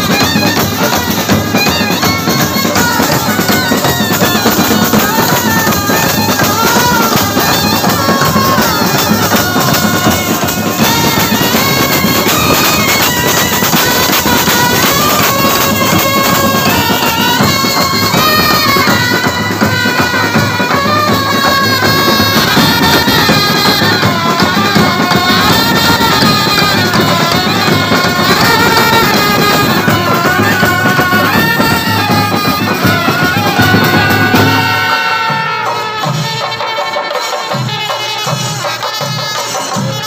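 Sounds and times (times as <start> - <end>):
brass band melody: 0.0 - 40.0
drums beating: 0.0 - 40.0.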